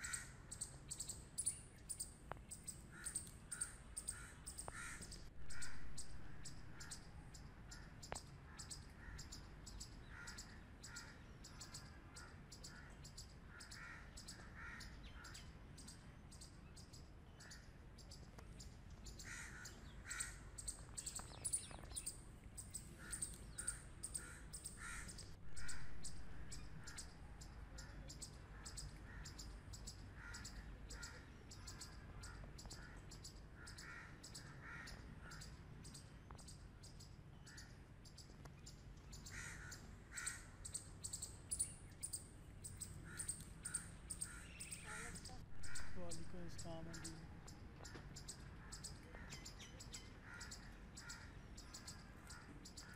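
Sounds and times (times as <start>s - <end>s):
squirrel harsh calls: 0.0s - 16.4s, 19.0s - 36.0s, 39.1s - 52.9s.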